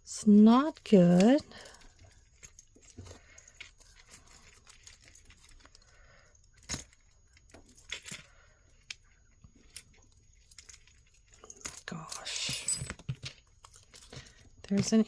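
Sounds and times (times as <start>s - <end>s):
metal jewelry clinking: 0.2s - 15.0s.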